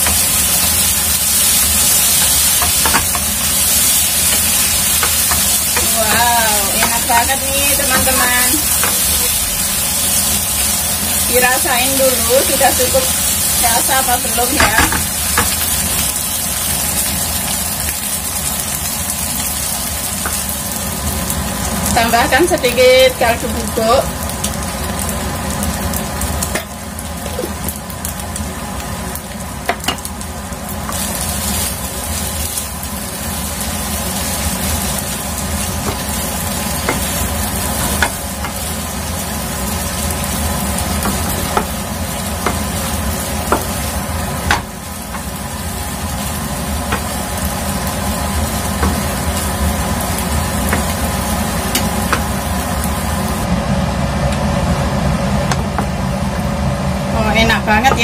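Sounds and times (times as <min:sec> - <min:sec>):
noodles sizzling in a frying pan: 0:00.0 - 0:58.0.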